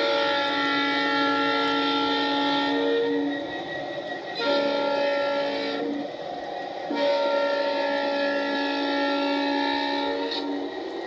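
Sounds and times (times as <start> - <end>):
model locomotive air horn blasts: 0.0 - 3.5, 4.4 - 6.1, 6.9 - 10.7
low locomotive running rumble: 0.0 - 11.0.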